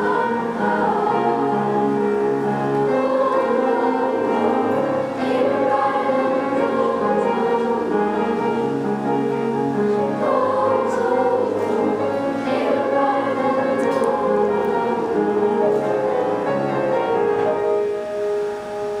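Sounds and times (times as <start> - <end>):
children's choir singing in harmony: 0.0 - 19.0.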